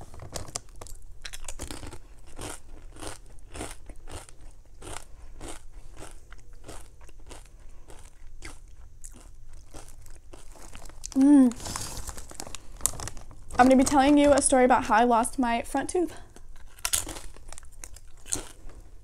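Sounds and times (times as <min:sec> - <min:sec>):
person crunching a chip: 0:00.1 - 0:13.6, 0:16.3 - 0:19.0.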